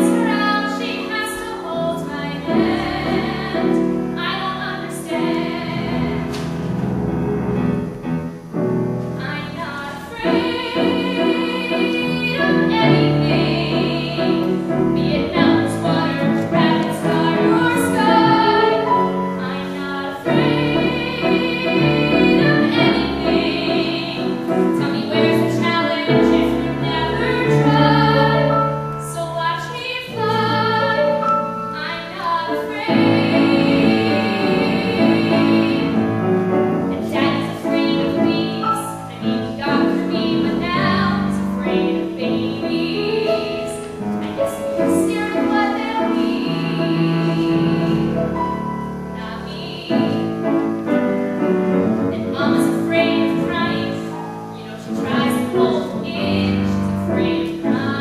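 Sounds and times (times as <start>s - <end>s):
woman singing with vibrato: 0.0s - 6.4s, 9.2s - 36.3s, 36.9s - 50.5s, 52.0s - 58.0s
piano accompaniment: 0.0s - 58.0s.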